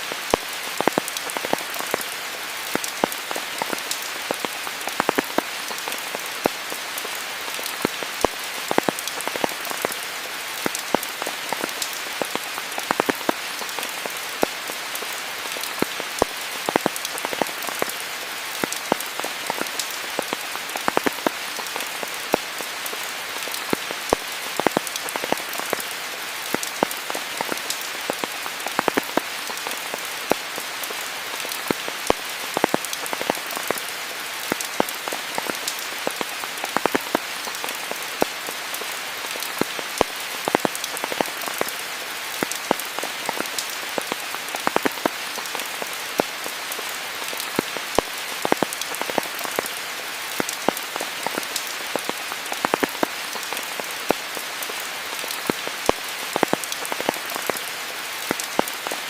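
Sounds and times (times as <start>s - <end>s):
raindrops striking leaves: 0.0s - 59.0s
steady rain hiss: 0.0s - 59.0s.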